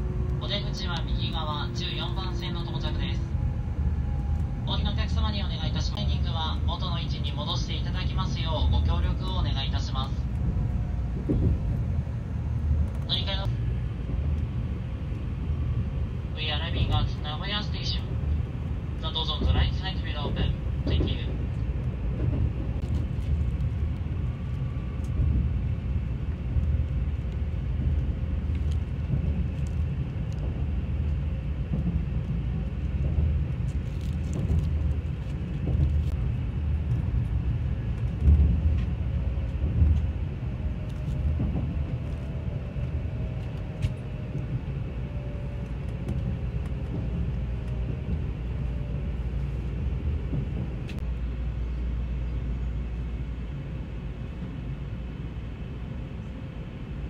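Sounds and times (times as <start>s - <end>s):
train interior rumble: 0.0s - 57.0s.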